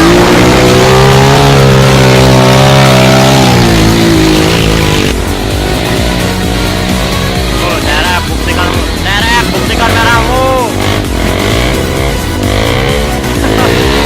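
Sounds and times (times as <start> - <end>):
motorcycle engine running hard: 0.0 - 14.0.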